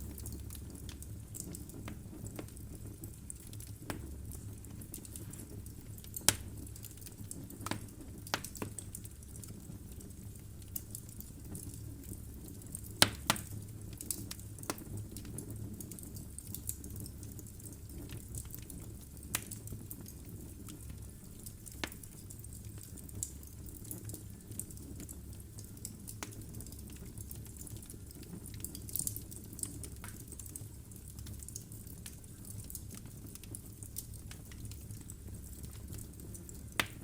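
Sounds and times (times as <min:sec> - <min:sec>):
wood fire crackling in fireplace: 0:00.0 - 0:37.0.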